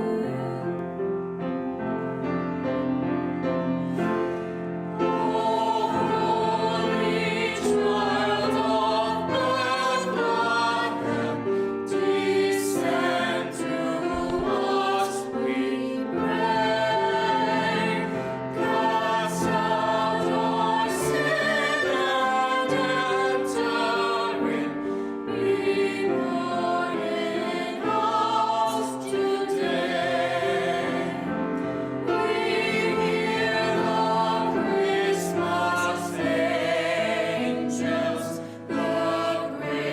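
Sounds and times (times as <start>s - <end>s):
choir singing: 0.0s - 0.8s, 3.0s - 39.9s.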